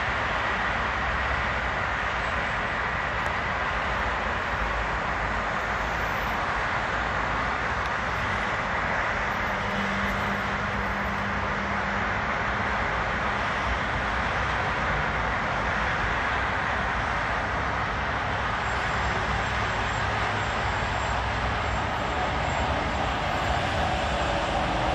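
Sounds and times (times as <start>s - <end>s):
city background hiss: 0.0s - 24.9s.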